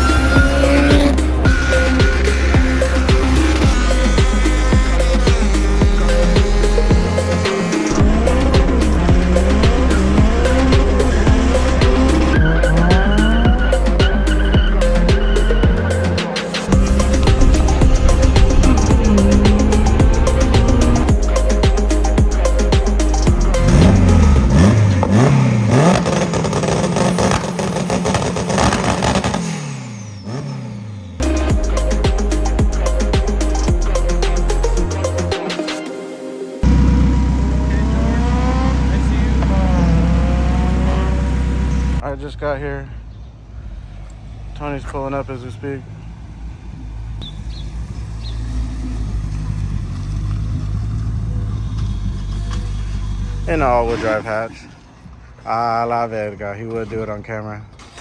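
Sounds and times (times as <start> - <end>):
car engine accelerating: 0.0 - 35.4, 36.6 - 55.6, 57.6 - 58.0.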